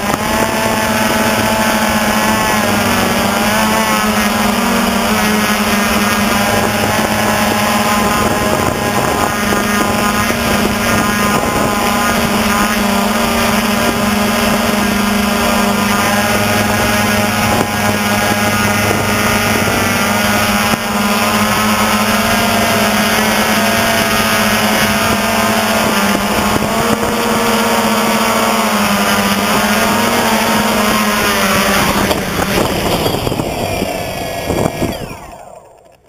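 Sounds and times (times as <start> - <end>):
drone motors buzzing whine: 0.0 - 36.0.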